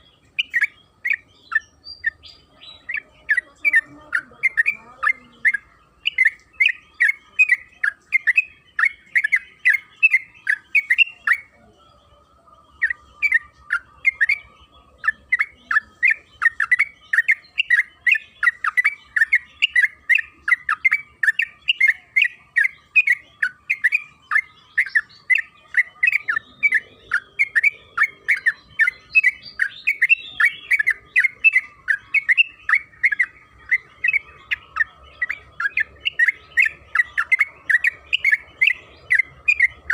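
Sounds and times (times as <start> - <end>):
bird singing chattering notes: 0.0 - 39.9
faint steady tone: 0.0 - 39.9.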